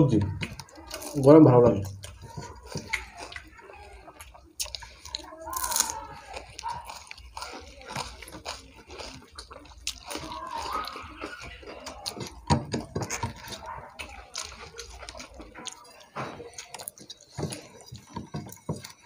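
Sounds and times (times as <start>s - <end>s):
wet chewing and mouth smacks: 0.2s - 19.0s.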